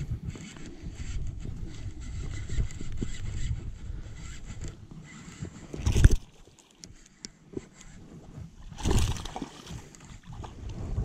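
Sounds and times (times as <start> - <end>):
wind buffeting microphone: 0.0 - 6.4, 7.9 - 11.0.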